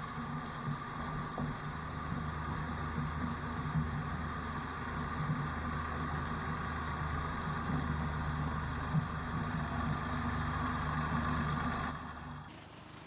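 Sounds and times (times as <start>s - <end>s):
wood chipper engine drone: 0.0s - 13.0s.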